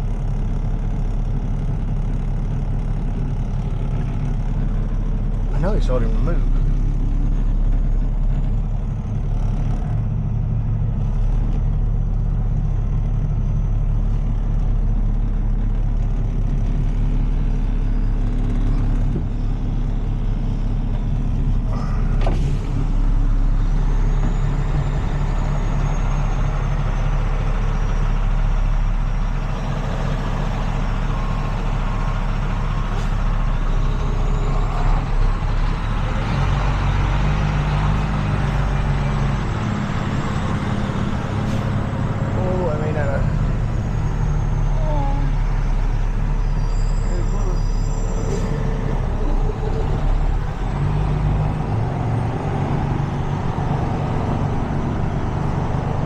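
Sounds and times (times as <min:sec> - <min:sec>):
tow truck diesel engine running: 0:00.0 - 0:56.0.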